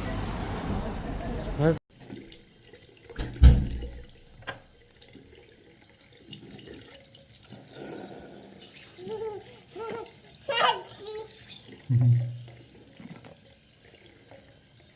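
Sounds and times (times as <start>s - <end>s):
water running: 0.0s - 14.9s.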